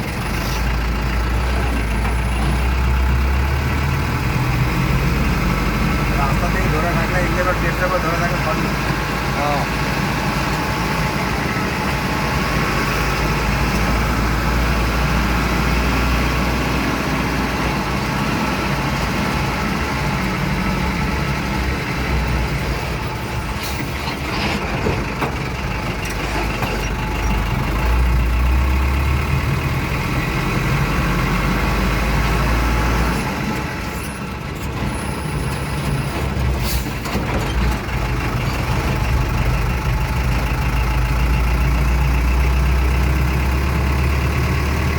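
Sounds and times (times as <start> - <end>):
truck engine and road rumble: 0.0 - 44.9.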